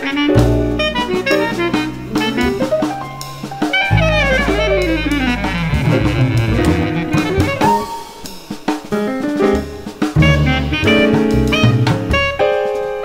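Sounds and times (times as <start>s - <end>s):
bass clarinet solo: 0.0s - 8.1s, 10.2s - 12.6s
jazz ensemble playing: 0.0s - 13.0s
sharp drum hits: 0.4s - 12.7s.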